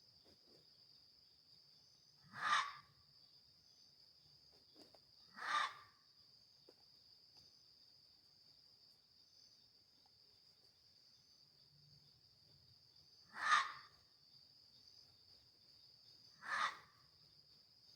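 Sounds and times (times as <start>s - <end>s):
crickets chirring: 0.0s - 17.9s.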